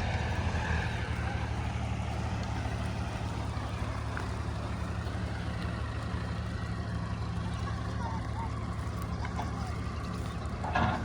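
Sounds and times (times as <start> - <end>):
diesel engine droning: 0.0 - 11.0
machinery noise: 0.0 - 11.0.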